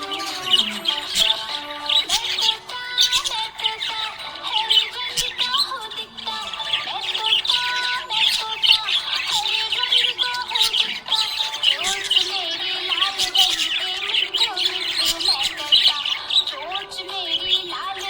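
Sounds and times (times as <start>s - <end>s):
budgerigar chirping: 0.0s - 18.0s.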